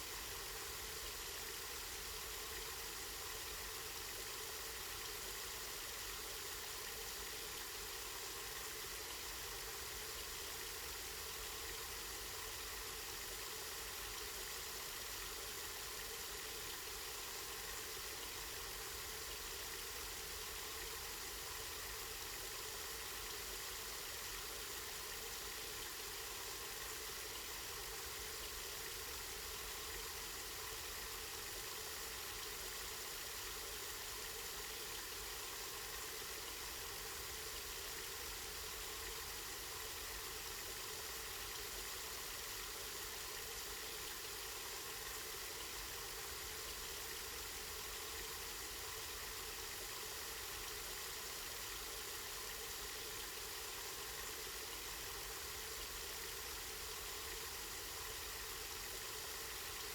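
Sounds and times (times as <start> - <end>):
water flowing: 0.0 - 59.9.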